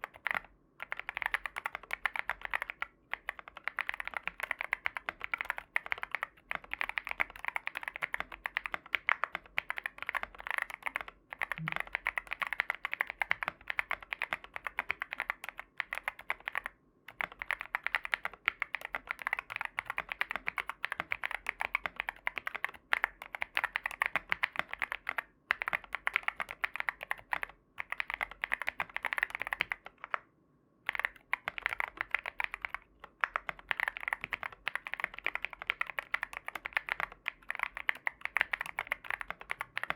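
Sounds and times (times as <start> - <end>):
mechanical keyboard typing: 0.0 - 30.2, 30.9 - 39.9.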